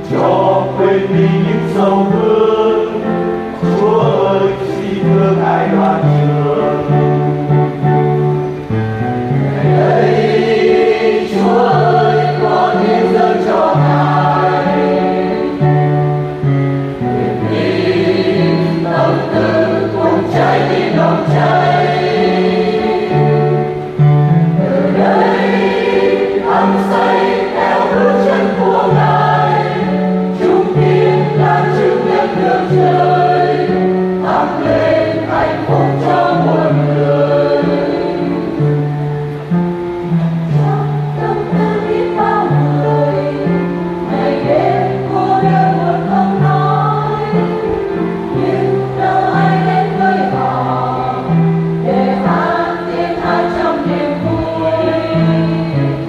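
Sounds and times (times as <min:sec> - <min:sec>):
choir singing a hymn: 0:00.0 - 0:56.0
instrumental accompaniment: 0:00.0 - 0:56.0.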